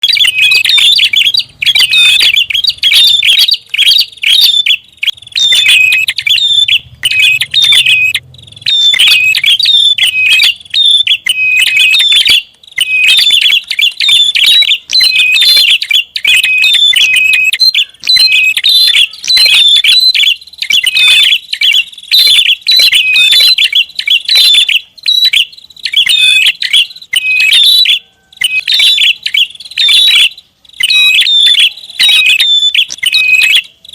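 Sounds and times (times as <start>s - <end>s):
prinia bird song: 0.0s - 33.9s.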